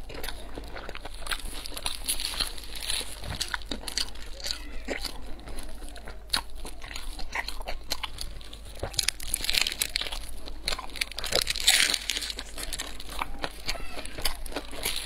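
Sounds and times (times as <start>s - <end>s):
crunching and chewing pastry: 0.0s - 15.0s.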